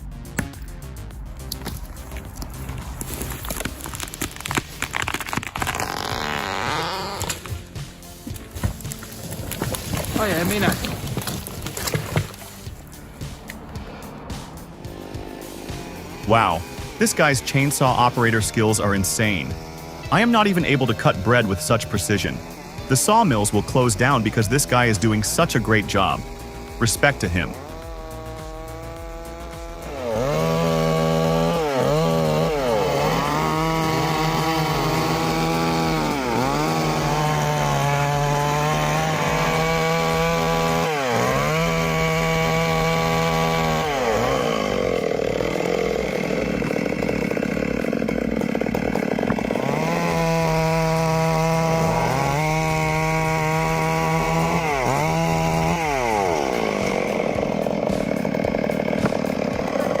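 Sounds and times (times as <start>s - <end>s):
chainsaw revving: 1.4s - 60.0s.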